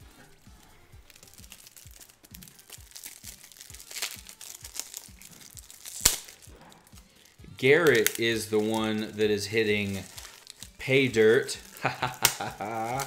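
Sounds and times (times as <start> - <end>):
plastic sleeve crinkling: 0.0 - 13.0.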